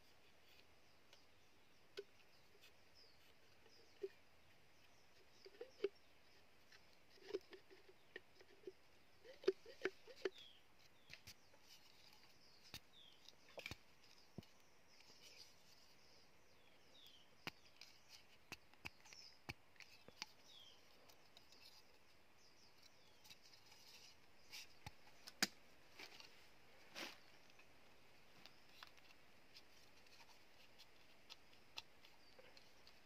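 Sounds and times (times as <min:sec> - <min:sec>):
faint bird chirps: 0:00.0 - 0:25.4, 0:26.0 - 0:33.0
bamboo pieces clicking and tapping: 0:00.2 - 0:16.2, 0:17.0 - 0:26.3, 0:28.4 - 0:33.0.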